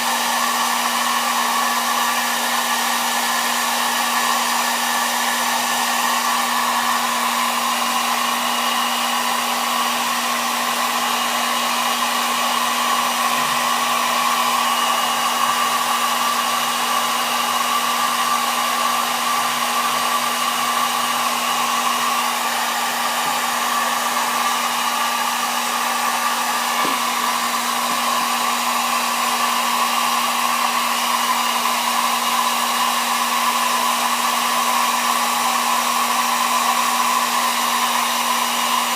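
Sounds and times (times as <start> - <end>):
hot-air blower rushing air: 0.0 - 38.9.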